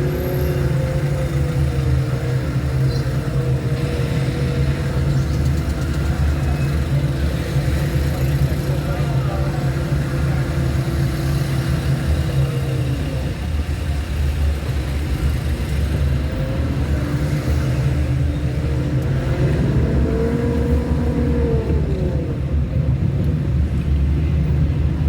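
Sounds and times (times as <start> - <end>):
car driving on a road: 0.0 - 25.0.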